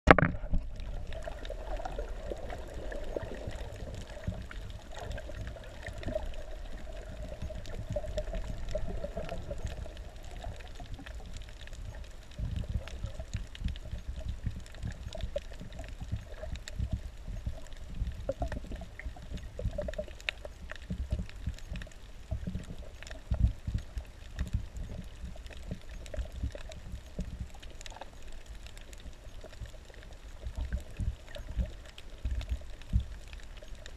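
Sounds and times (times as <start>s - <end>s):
small crackles and clicks: 0.1s - 33.9s
water sloshing underwater: 0.1s - 33.9s.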